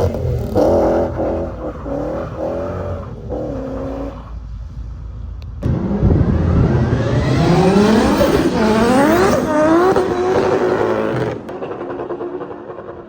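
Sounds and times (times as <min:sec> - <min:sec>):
car engine accelerating hard: 0:00.0 - 0:04.8, 0:05.6 - 0:13.0.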